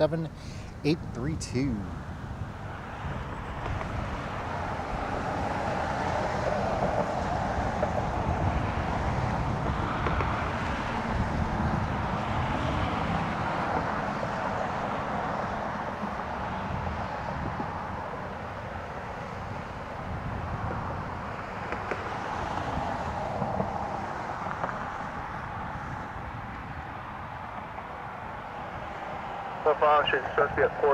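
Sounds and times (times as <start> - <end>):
jet airliner engine noise: 0.0 - 30.9
wind rumble on microphone: 0.2 - 29.2.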